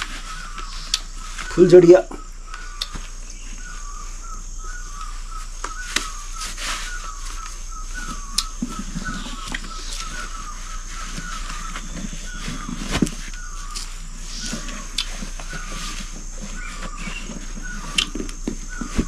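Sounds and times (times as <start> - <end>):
bird calling in quick notes: 0.0 - 19.0.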